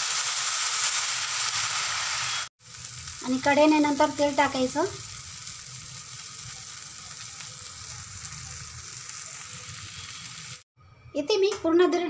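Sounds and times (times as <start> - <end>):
batter sizzling in oil: 0.0 - 10.7.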